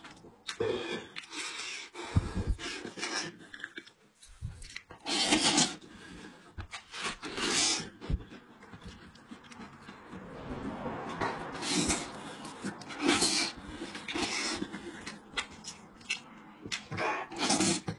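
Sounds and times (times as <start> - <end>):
chewing and mouth sounds: 0.0 - 10.3, 11.0 - 17.9.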